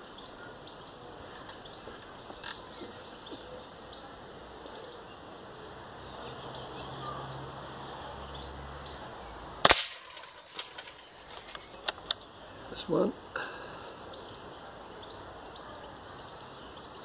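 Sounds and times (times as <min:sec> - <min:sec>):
birdsong chirps: 0:00.0 - 0:17.0.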